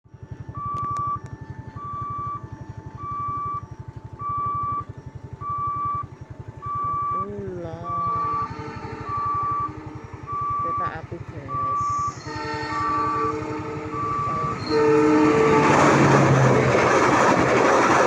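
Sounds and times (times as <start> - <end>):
level crossing warning alarm: 0.1 - 18.0
rapid low throbbing: 0.1 - 18.0
pitched sound gliding down: 0.9 - 18.0.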